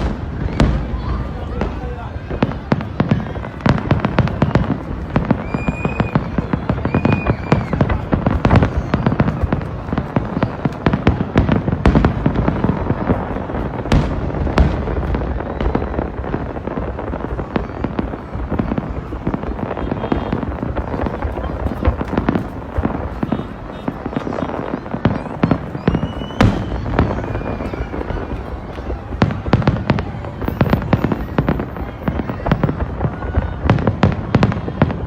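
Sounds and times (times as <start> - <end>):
deep fireworks booms: 0.0 - 35.0
fireworks bursts and crackling: 0.0 - 35.0.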